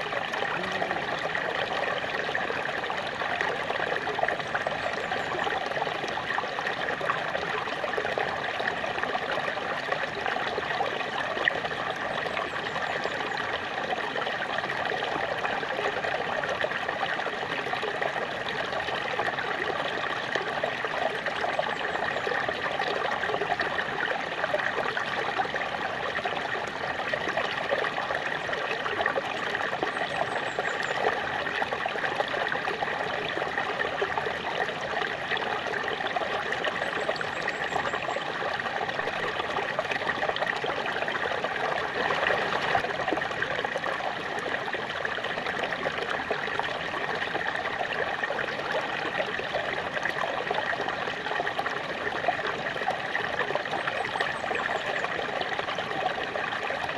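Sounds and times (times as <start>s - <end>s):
waterfall splashing and trickling: 0.0s - 56.9s.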